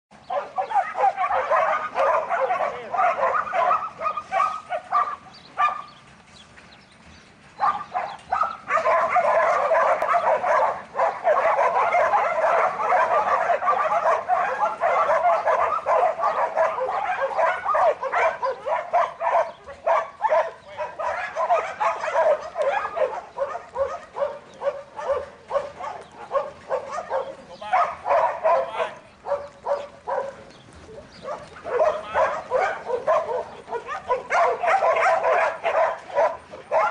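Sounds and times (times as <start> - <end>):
dogs barking and yipping: 0.1 - 6.4, 7.0 - 36.9.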